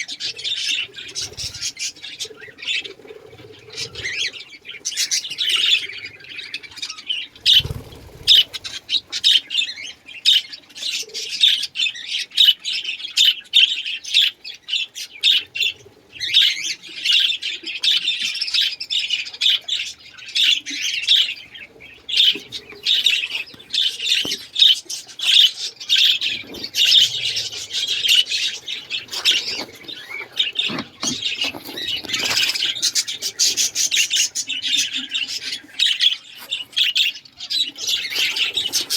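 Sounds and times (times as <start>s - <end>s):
cage birds calling: 0.0s - 38.9s.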